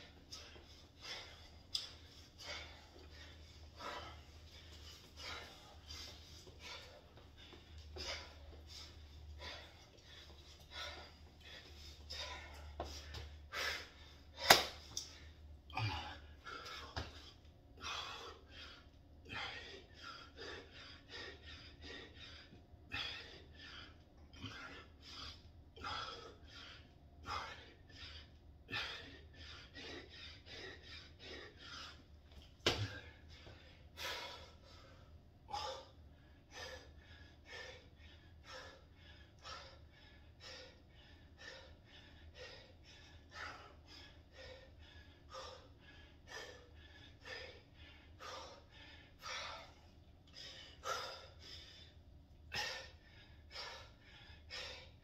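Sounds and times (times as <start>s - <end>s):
man breathing hard: 0.0s - 55.0s.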